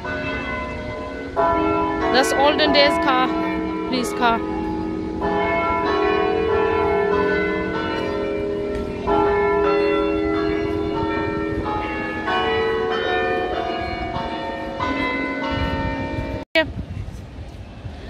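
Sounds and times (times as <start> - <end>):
tower bells ringing: 0.0 - 16.4.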